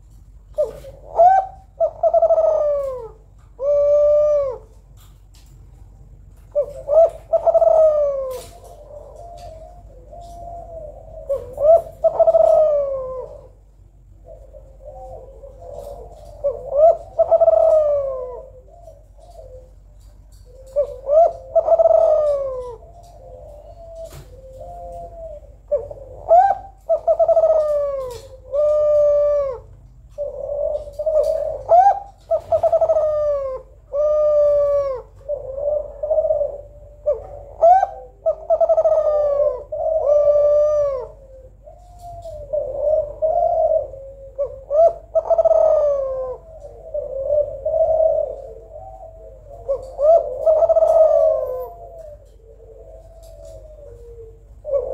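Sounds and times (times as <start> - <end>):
dove cooing: 0.0 - 5.6, 6.2 - 54.9.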